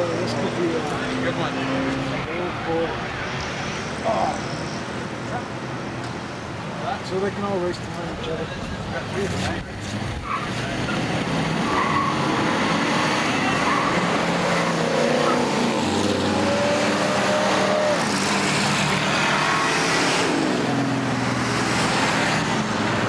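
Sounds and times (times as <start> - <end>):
car engines passing: 0.0 - 23.0
traffic noise: 0.0 - 23.0.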